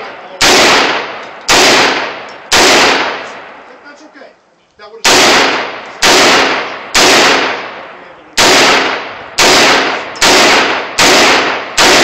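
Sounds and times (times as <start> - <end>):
rifle shots with echo: 0.0 - 3.7, 5.0 - 12.0.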